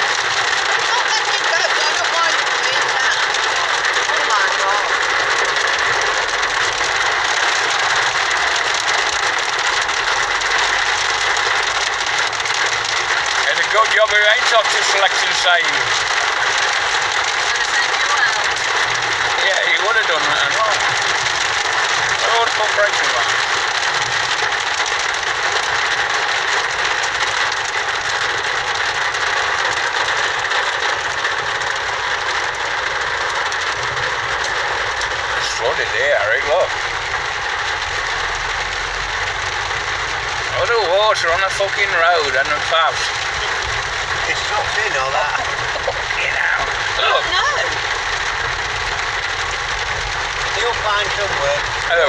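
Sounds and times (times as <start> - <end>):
car engine running low: 0.0 - 52.0
heavy rain drumming on a car: 0.0 - 52.0
tyres on wet road: 0.0 - 52.0.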